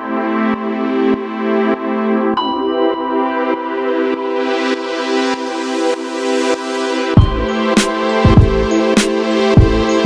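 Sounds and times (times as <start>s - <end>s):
synthesizer chords: 0.0s - 10.0s.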